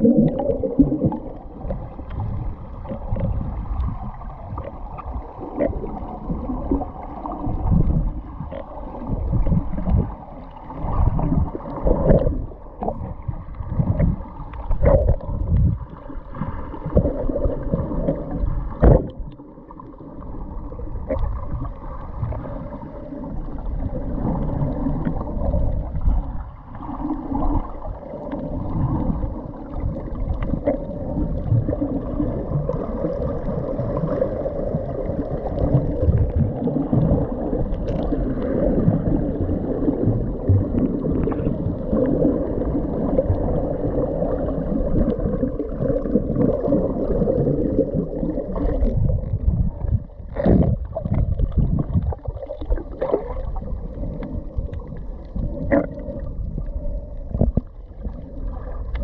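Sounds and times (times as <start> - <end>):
muffled underwater water gurgling: 0.0 - 59.0.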